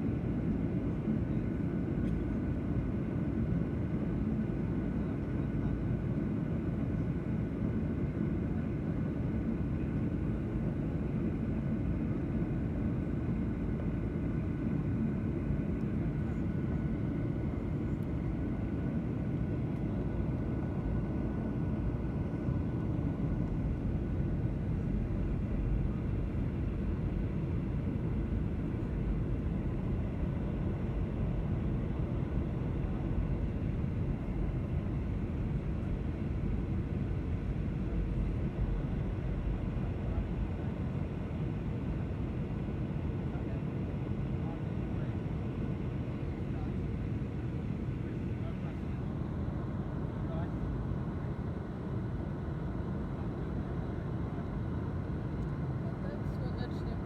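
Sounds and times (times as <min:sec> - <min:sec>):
aircraft engine rumble in cabin: 0:00.0 - 0:57.0
faint steady whine: 0:00.0 - 0:57.0.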